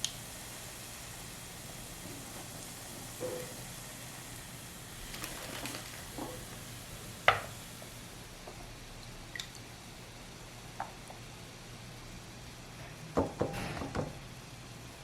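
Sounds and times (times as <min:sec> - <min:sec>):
oil sizzling faintly: 0:00.0 - 0:13.2.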